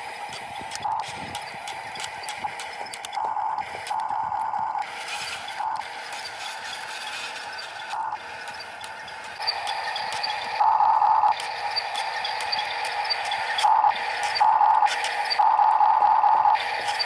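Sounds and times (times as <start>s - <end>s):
hydraulic pump whining: 0.0s - 17.0s.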